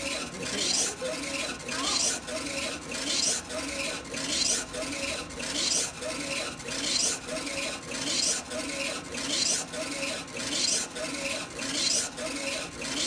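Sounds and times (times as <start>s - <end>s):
printer carriage whirring: 0.0s - 13.0s.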